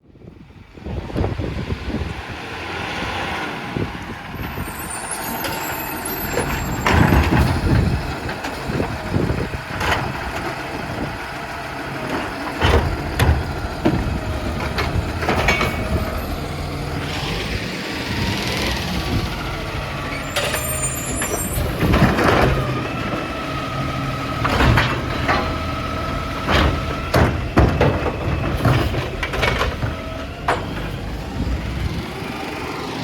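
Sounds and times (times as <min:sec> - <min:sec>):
recycling truck engine hum: 0:00.0 - 0:33.0.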